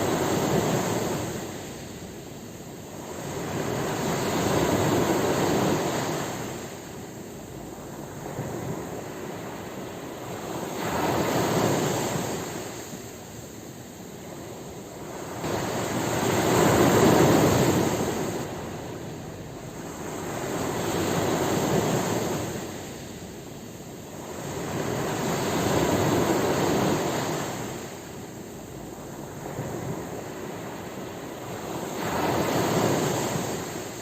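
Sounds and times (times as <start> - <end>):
ocean waves breaking on shore: 0.0 - 34.0.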